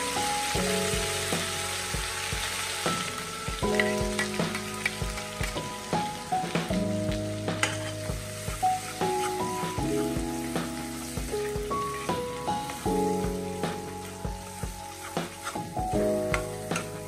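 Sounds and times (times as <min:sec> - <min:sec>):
hot oil sizzling: 0:00.0 - 0:17.0
soft background music: 0:00.0 - 0:17.0.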